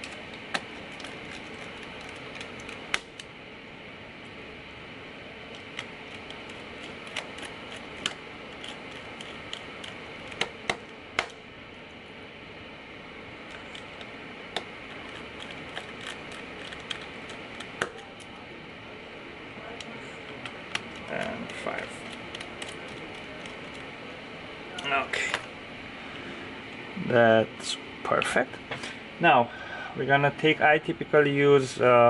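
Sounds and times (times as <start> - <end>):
steady low hiss: 0.0 - 32.0.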